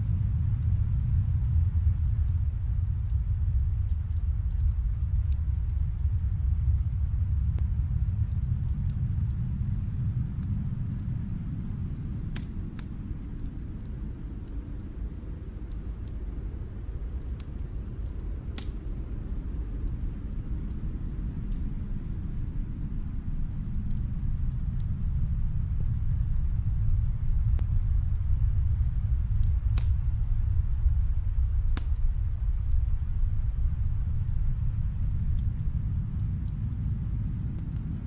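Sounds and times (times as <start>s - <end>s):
storm wind rumble: 0.0s - 38.0s
fireplace crackling and popping: 0.1s - 38.0s.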